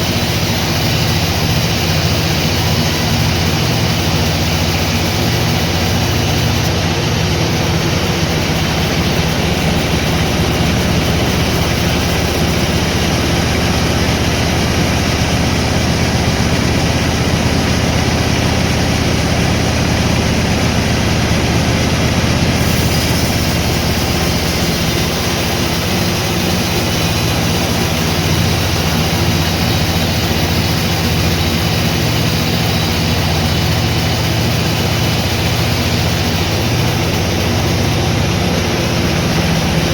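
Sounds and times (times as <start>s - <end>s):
low engine-like hum: 0.0s - 39.9s
sawmill machinery din: 0.0s - 39.9s.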